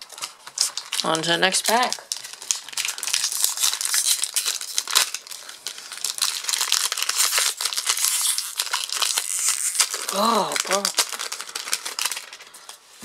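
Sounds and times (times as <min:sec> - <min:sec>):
foil wrapper crinkling and tearing: 0:00.0 - 0:12.8.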